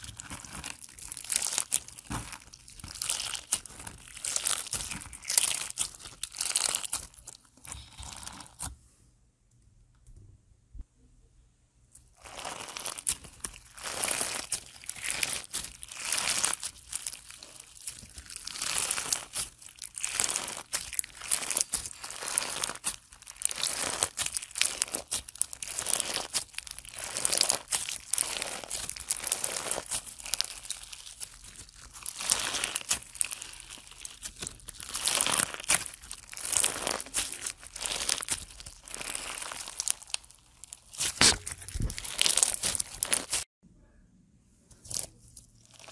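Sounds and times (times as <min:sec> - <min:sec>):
crunchy slime squeezed by hand: 0:00.0 - 0:08.7, 0:12.2 - 0:43.4.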